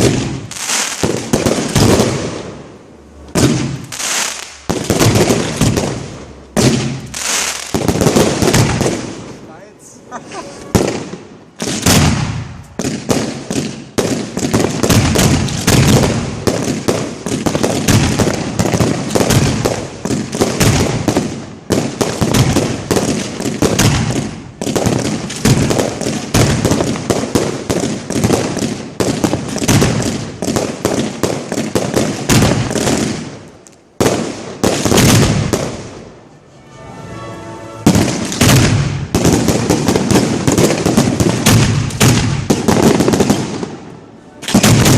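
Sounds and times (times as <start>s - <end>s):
firework mortar launches: 0.0s - 9.5s, 10.4s - 36.1s, 37.9s - 44.9s.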